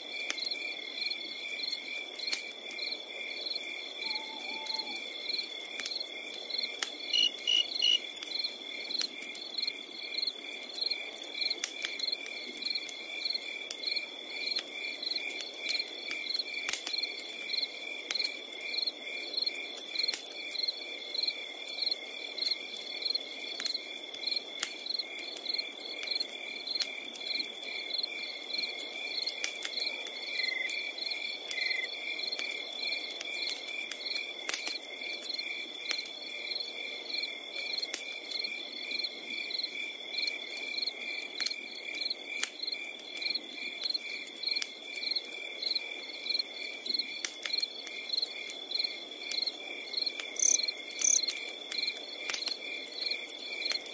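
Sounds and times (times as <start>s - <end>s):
crickets chirping: 0.1s - 53.9s.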